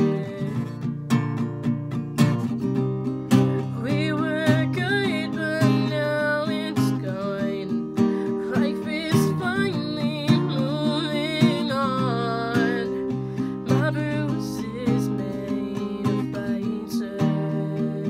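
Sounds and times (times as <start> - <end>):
woman singing: 0.0 - 1.6, 3.3 - 18.0
acoustic guitar strumming: 0.0 - 18.0.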